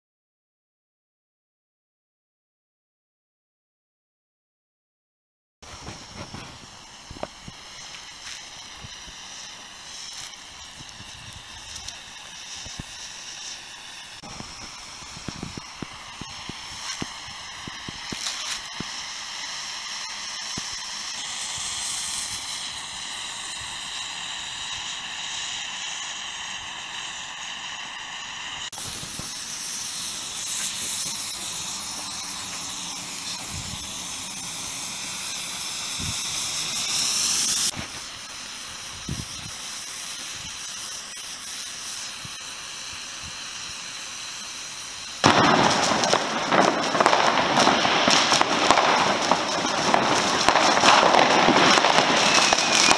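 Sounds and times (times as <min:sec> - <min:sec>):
firework fountains crackling: 0:05.6 - 0:52.9
fireworks hissing: 0:05.6 - 0:52.9.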